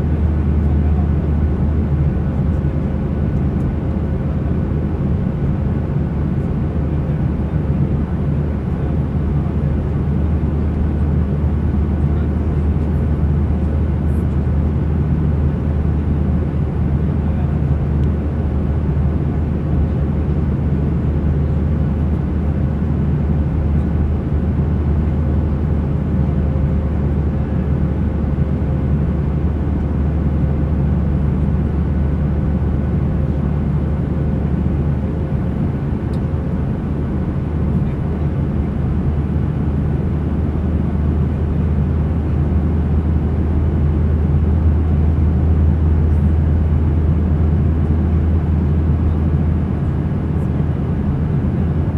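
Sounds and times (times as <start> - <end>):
engine and airflow rumble: 0.0 - 51.9.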